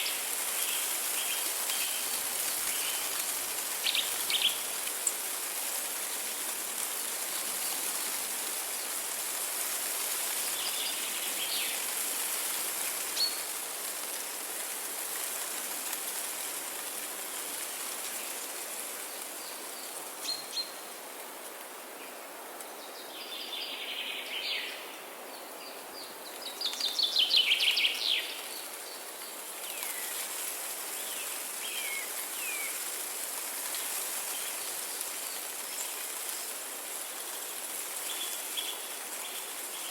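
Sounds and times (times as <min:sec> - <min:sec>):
trickling water hiss: 0:00.0 - 0:39.9.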